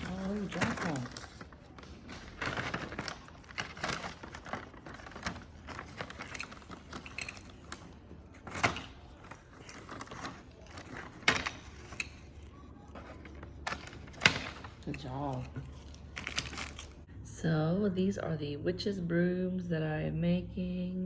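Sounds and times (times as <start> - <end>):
plastic bags crinkling: 0.0 - 17.1.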